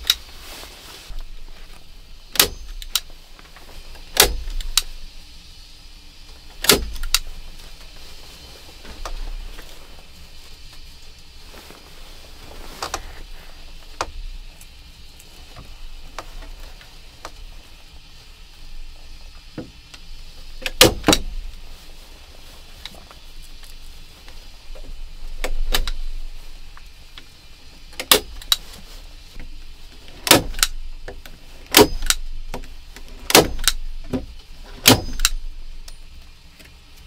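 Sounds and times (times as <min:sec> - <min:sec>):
quiet handling: 0:00.0 - 0:37.0.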